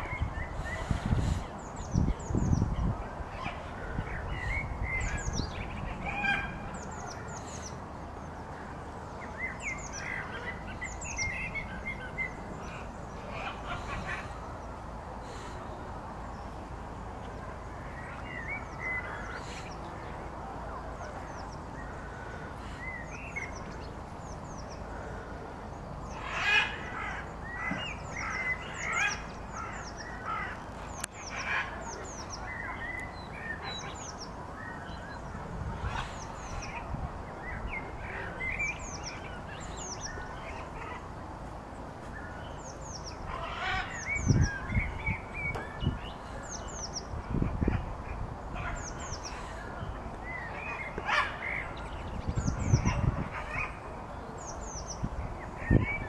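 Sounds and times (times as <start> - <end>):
birds chirping: 0.0 - 56.0
outdoor background noise: 0.0 - 56.0.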